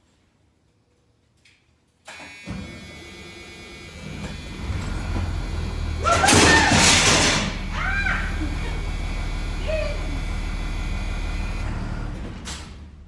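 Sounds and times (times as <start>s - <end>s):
bus engine starting and running: 2.1s - 13.0s.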